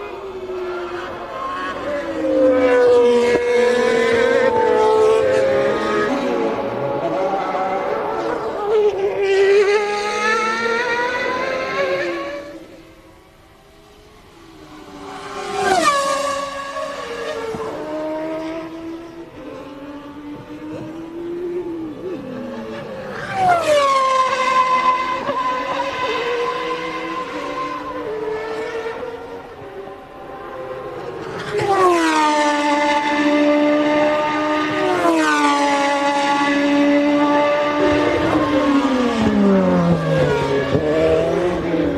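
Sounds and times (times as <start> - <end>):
racing car engine passing: 0.0 - 41.9.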